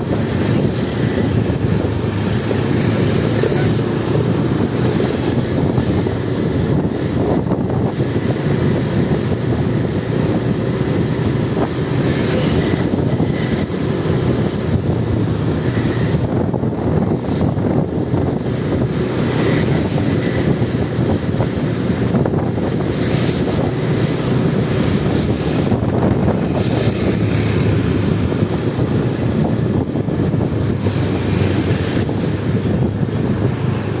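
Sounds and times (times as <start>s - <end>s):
scooter engine running: 0.0s - 34.0s
wind on microphone: 0.0s - 34.0s.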